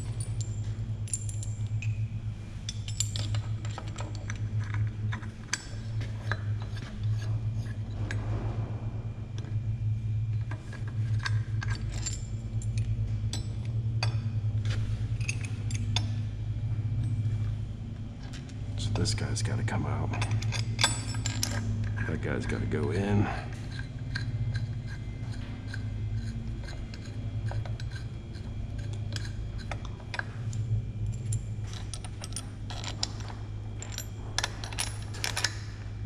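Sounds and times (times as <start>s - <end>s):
metal parts clinking and scraping: 0.0s - 8.3s, 10.4s - 16.2s, 17.0s - 36.0s
steady low hum: 0.0s - 36.0s.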